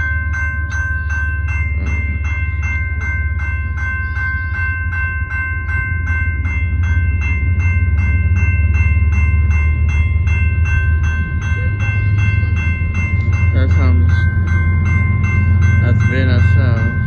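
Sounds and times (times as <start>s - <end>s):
crossing warning bell ringing: 0.0s - 17.0s
train rumble: 0.0s - 17.0s.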